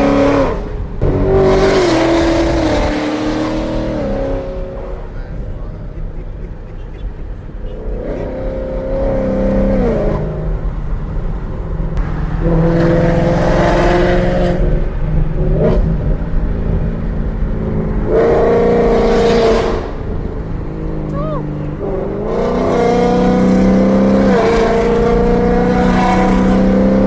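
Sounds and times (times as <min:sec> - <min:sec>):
car engine revving and idling: 0:00.0 - 0:27.0.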